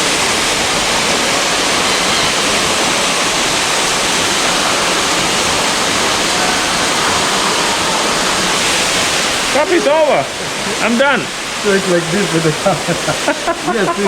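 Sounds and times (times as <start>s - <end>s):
falling water rushing: 0.0s - 14.0s.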